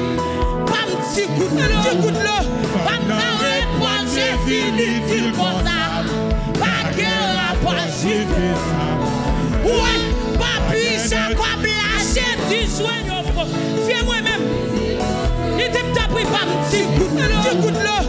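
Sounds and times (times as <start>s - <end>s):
band playing steady beat: 0.0s - 18.0s.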